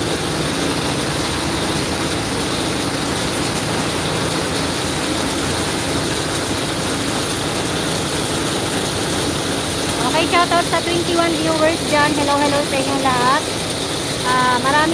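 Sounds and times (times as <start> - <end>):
hose spraying water: 0.0 - 14.9
truck engine and pump running: 0.0 - 14.9.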